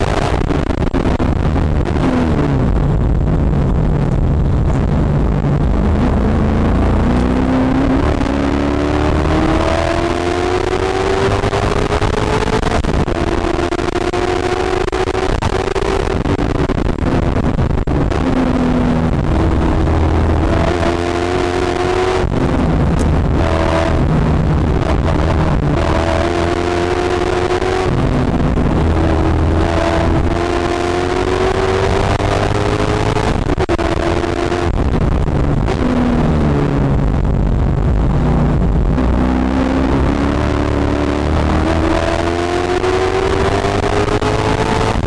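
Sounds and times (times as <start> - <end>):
race car engine accelerating: 0.0 - 45.0.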